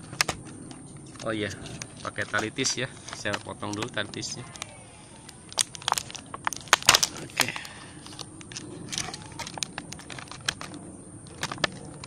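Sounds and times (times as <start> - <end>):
sharp clicks and snaps: 0.0 - 12.0
plastic packaging crinkling: 1.0 - 12.0.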